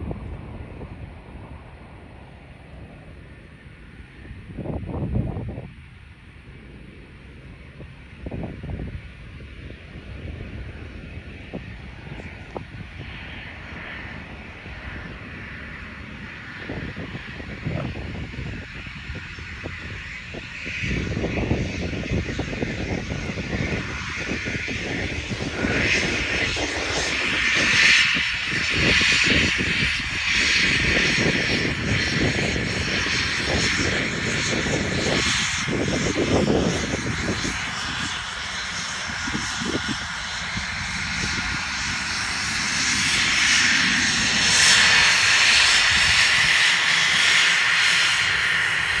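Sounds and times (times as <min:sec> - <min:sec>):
jet engines rushing: 0:00.0 - 0:49.0.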